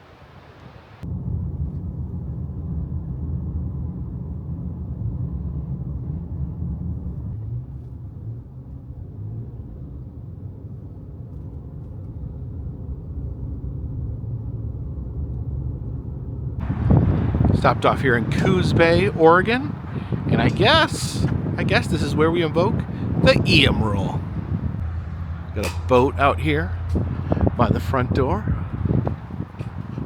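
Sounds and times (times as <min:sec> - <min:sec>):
car engine rumble: 0:00.0 - 0:30.0
road noise: 0:00.0 - 0:30.0.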